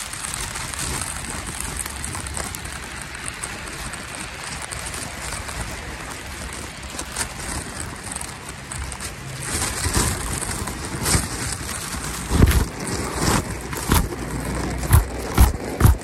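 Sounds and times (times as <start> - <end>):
footsteps crunching in snow: 0.0 - 16.0
wind buffeting microphone: 0.0 - 16.0.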